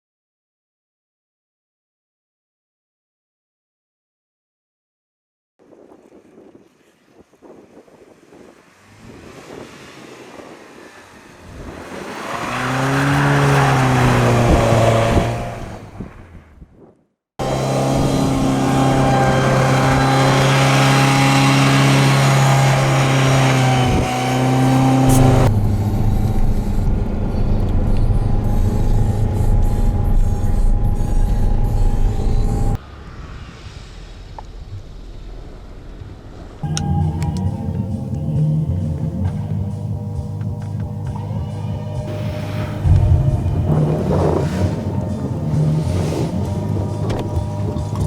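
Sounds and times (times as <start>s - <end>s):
steady engine hum: 7.5s - 16.0s, 17.4s - 48.0s
vehicle engine passing: 8.2s - 16.3s, 17.4s - 48.0s.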